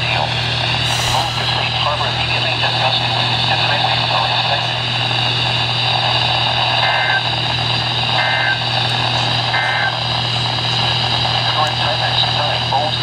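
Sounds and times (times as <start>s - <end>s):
radio hiss and hum: 0.0s - 7.3s, 8.1s - 13.0s.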